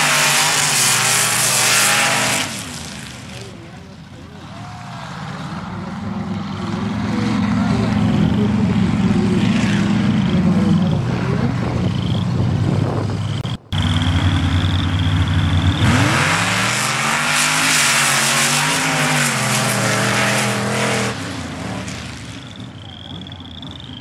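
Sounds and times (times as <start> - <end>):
high steady engine whine: 0.0 - 24.0
truck engines revving: 0.0 - 24.0.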